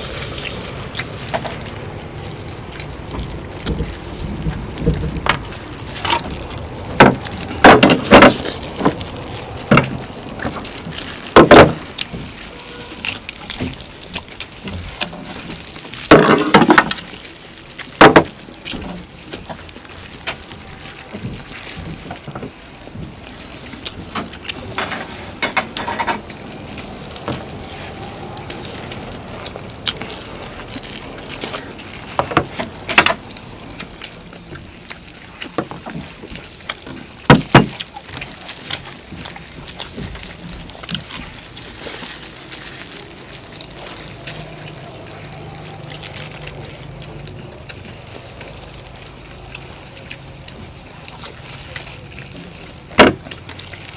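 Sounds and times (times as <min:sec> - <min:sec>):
people chewing and tearing food: 0:00.0 - 0:53.9.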